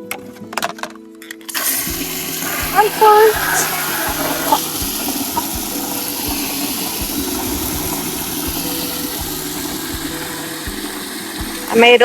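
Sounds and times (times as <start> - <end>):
running water hiss: 1.5 - 12.0
water pump motor humming: 1.5 - 12.0.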